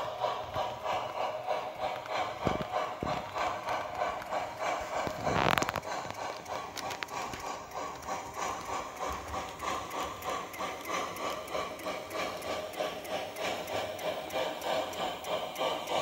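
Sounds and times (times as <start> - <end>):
model steam locomotive chuffs: 0.0 - 16.0.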